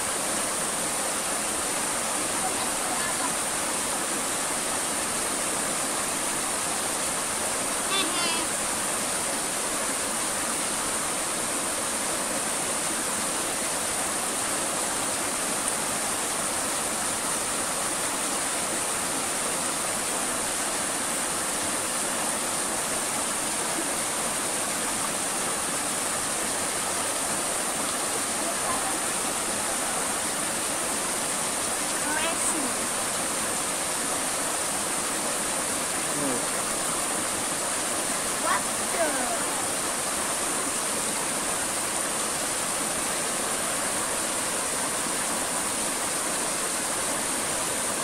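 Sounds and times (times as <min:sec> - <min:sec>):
river water running over rocks: 0:00.0 - 0:48.0.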